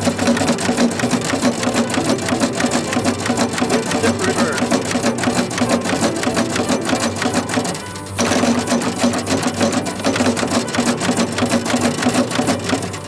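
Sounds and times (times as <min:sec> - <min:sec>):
steam engine clattering: 0:00.0 - 0:13.0.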